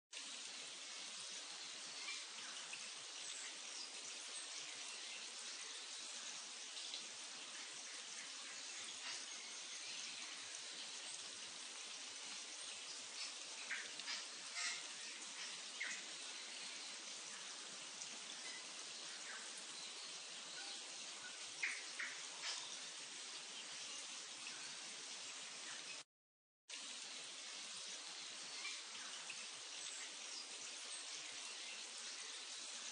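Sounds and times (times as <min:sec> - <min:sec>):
faint outdoor hiss: 0:00.2 - 0:26.0, 0:26.7 - 0:32.9.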